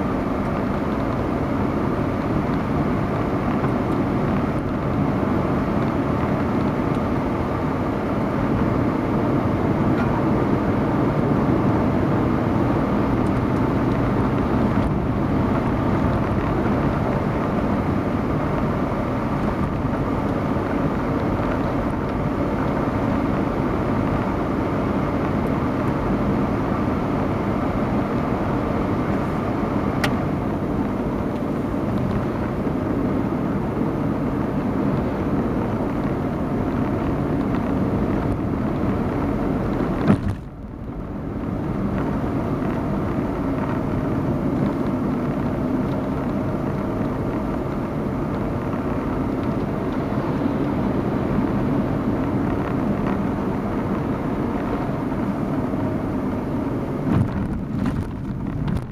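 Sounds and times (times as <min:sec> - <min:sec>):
car road and engine noise: 0:00.0 - 0:58.9.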